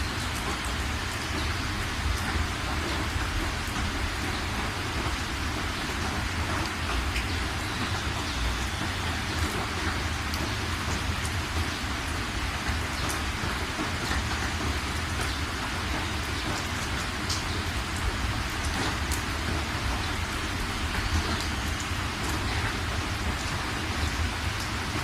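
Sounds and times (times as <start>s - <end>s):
rain falling: 0.0s - 25.0s
sharp drips: 0.0s - 25.0s.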